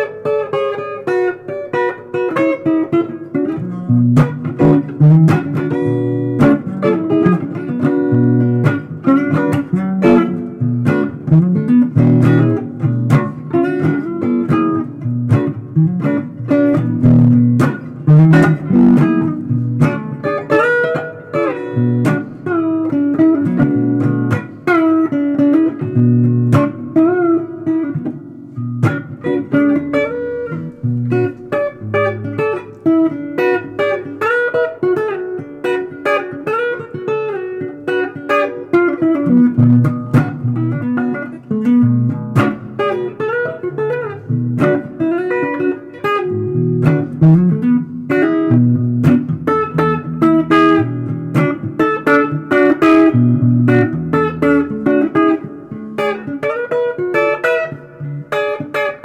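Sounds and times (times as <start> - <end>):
blues guitar playing: 0.0 - 59.0.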